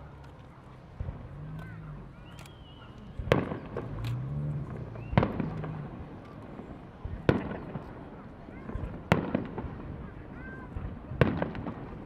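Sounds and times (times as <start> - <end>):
fireworks booming overhead: 0.0 - 12.0.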